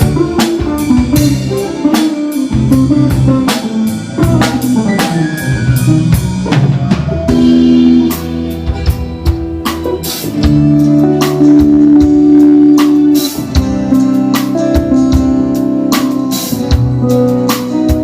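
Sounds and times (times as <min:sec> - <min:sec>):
bass notes: 0:00.0 - 0:18.0
drum kit beat: 0:00.0 - 0:18.0
guitar notes: 0:00.0 - 0:18.0
held chords: 0:00.0 - 0:18.0.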